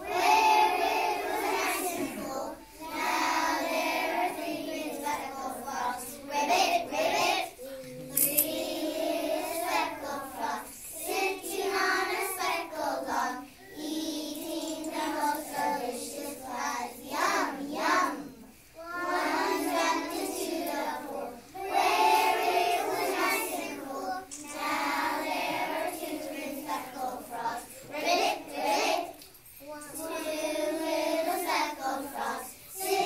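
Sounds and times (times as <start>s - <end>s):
children reciting in unison: 0.0s - 33.0s.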